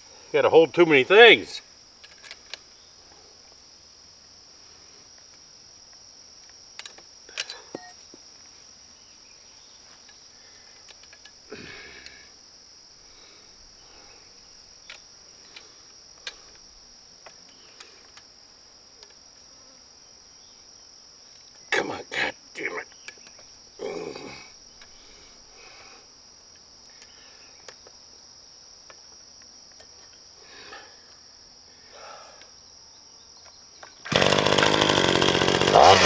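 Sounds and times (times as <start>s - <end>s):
crickets chirping: 0.0s - 35.7s.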